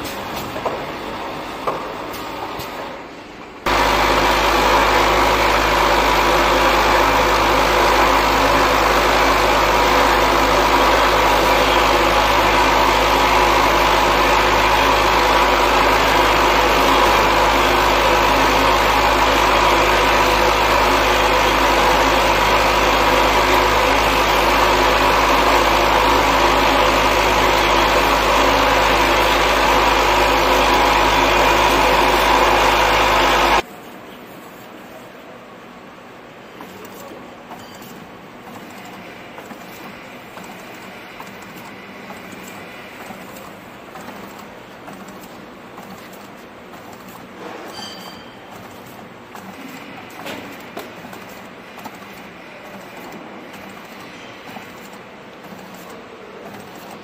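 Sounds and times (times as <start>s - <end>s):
capping machine mechanical hum: 0.0s - 57.0s.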